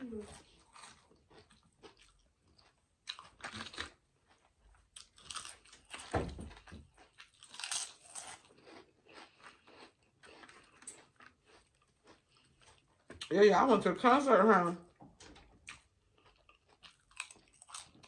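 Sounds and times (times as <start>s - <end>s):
person chewing crunchy snack: 0.3s - 13.3s, 15.6s - 18.0s.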